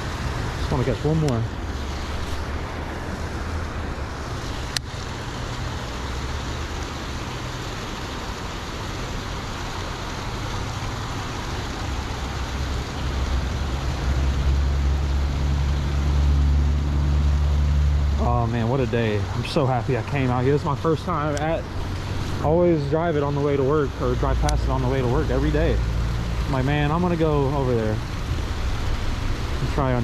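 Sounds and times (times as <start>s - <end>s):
traffic rumble from bridge: 0.0s - 30.0s.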